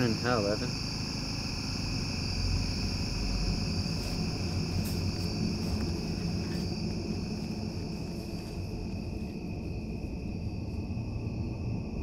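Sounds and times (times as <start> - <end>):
crickets chirping: 0.0 - 12.0
low rumble: 0.7 - 12.0.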